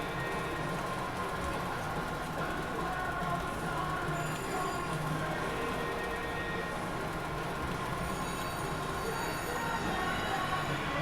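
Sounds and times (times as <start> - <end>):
constant background hum: 0.0 - 11.0.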